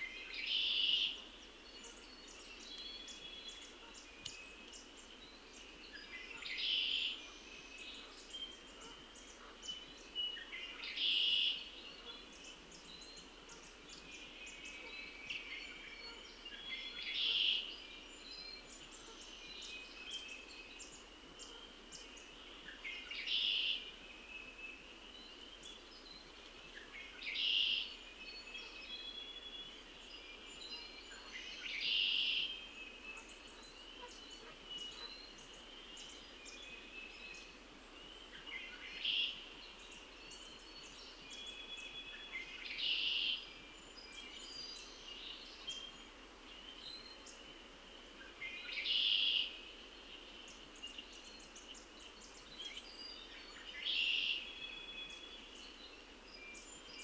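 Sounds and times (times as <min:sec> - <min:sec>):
faint birds chirping: 0:00.0 - 0:57.0.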